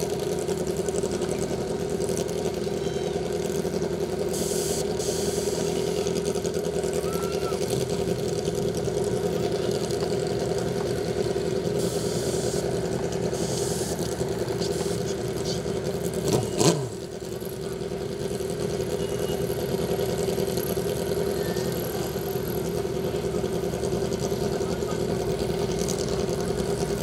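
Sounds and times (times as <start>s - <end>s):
motorcycle engines idling: 0.0s - 27.0s.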